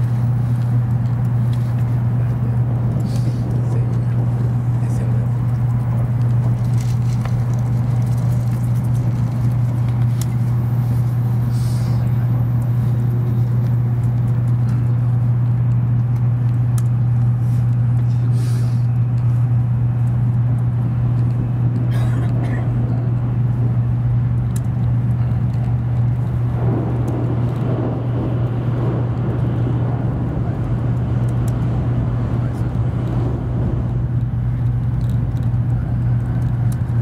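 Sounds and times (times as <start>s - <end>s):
train rumbling over bridge: 0.0s - 19.9s, 20.8s - 37.0s
train cabin hum and roar: 0.0s - 37.0s.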